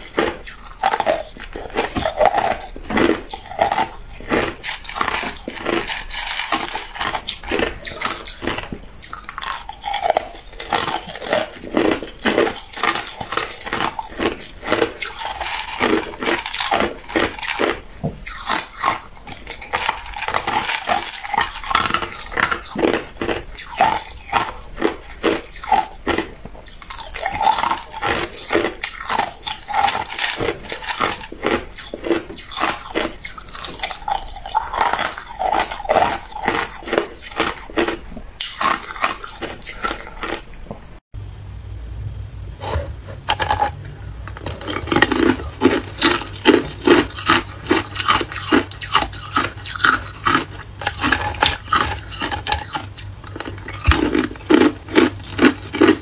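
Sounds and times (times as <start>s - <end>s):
ice cubes crunched between teeth: 0.0s - 40.8s, 43.3s - 56.0s.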